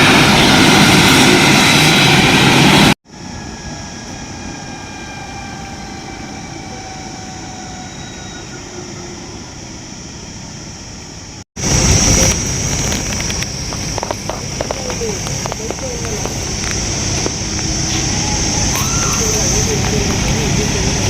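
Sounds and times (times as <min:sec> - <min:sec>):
helicopter turbine and rotor: 0:00.0 - 0:21.0.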